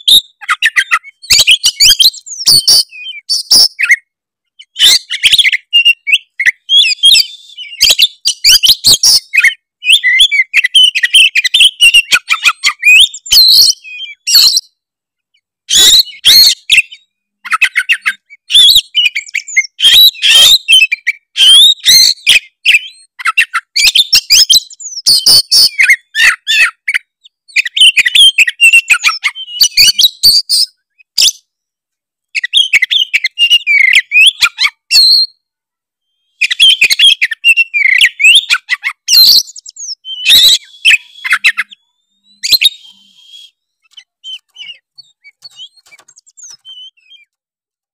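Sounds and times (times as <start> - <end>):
bird singing fast trills: 0.0 - 14.8, 15.7 - 31.6, 32.4 - 35.5, 36.1 - 47.3.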